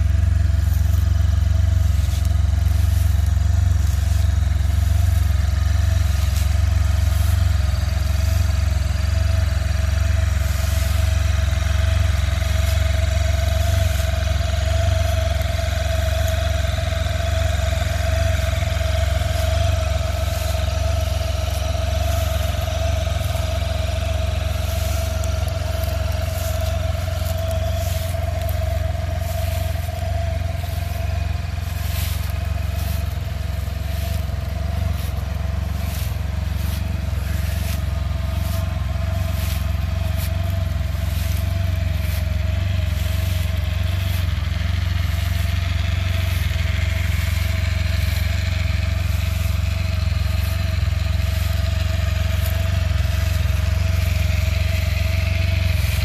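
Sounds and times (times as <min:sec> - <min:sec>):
engine idling: 0:00.0 - 0:56.0
footsteps crunching dry leaves: 0:00.0 - 0:56.0.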